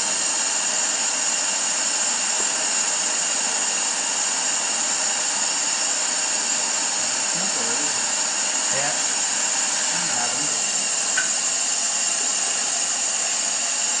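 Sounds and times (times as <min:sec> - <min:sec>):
blower whining and hissing: 0:00.0 - 0:14.0.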